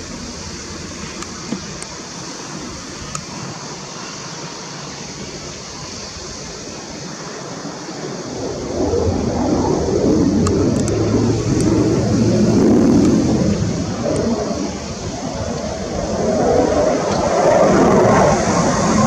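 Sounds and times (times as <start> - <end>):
jet engine rumble: 0.0 - 19.0.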